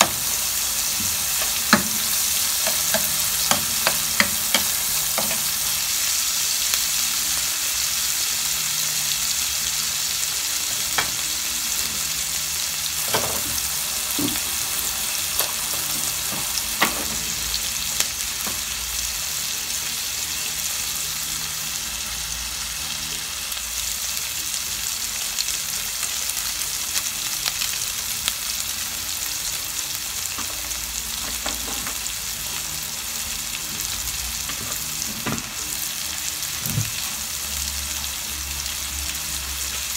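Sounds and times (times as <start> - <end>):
onions sizzling in hot oil: 0.0 - 39.9.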